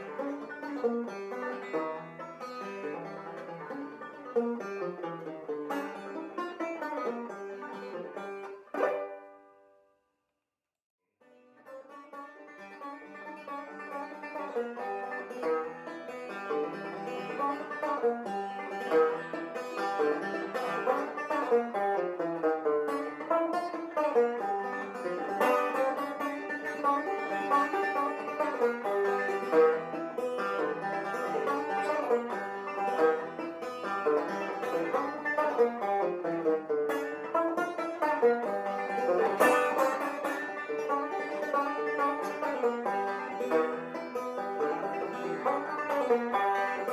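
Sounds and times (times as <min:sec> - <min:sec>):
plucked banjo tune: 0:00.0 - 0:09.9, 0:11.2 - 0:46.9.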